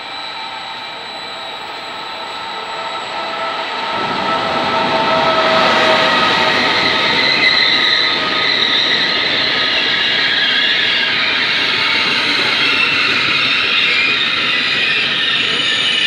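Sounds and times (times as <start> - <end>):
train rolling past: 0.0 - 16.0
wheels squealing: 0.0 - 16.0.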